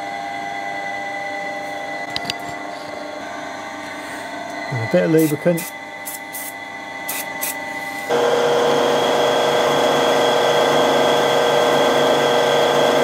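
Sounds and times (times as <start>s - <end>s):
milling machine spindle whine: 0.0s - 13.0s.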